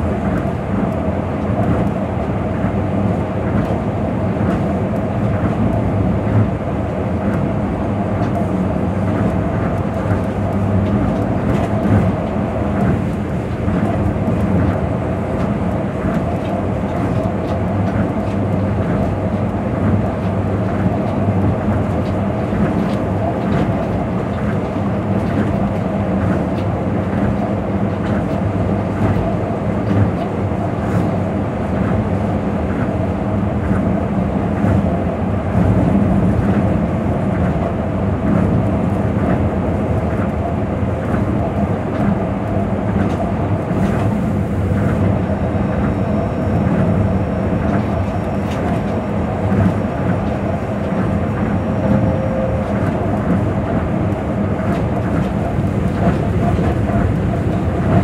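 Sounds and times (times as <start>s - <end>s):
monorail cabin rumble: 0.0s - 58.0s.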